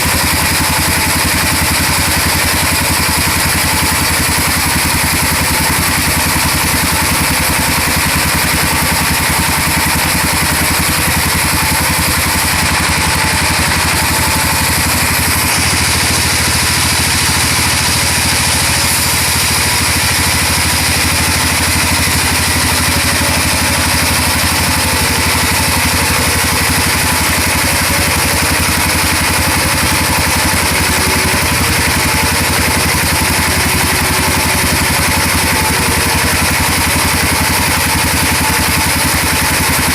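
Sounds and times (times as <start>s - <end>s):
sawmill engine and saw running: 0.0s - 39.9s.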